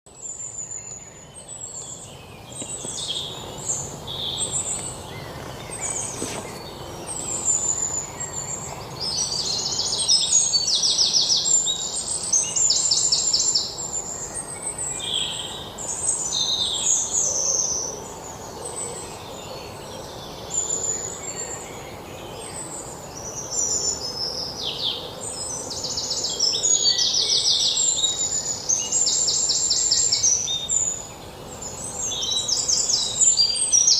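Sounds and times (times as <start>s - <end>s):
birds chirping and singing: 0.1s - 33.9s.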